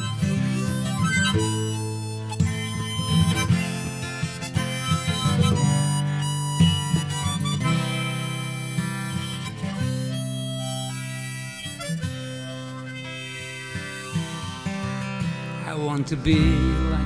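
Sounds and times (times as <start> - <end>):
acoustic guitar: 0.0 - 17.0
harmonica long notes: 0.0 - 17.0.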